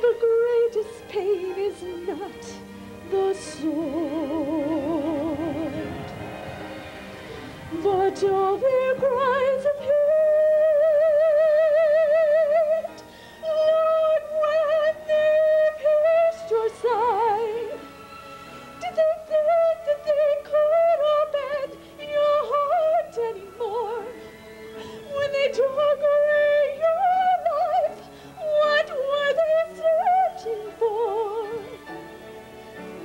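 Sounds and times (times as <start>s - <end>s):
soft sustained accompaniment: 0.0s - 33.0s
wordless solo singing with vibrato: 0.0s - 33.0s.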